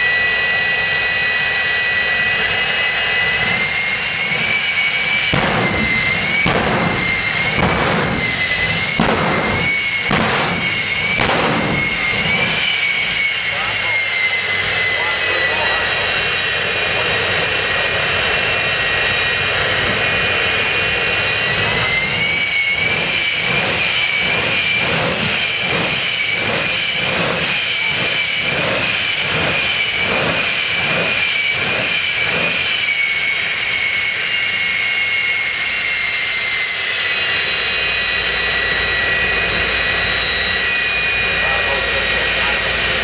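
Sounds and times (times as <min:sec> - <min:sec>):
jet engine high whine: 0:00.0 - 0:43.0
exhaust pulsing rhythmically: 0:01.3 - 0:33.0, 0:37.1 - 0:43.0.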